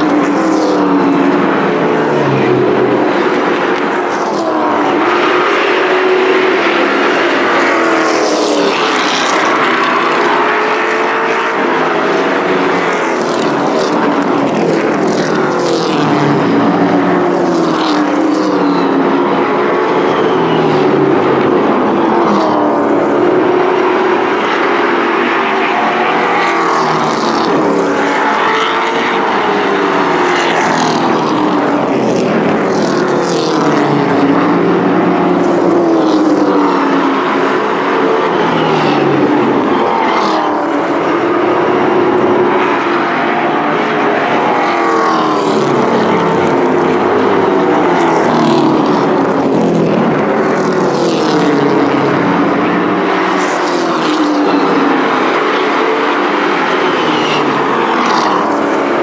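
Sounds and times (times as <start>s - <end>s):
racing truck engines: 0.0s - 59.0s.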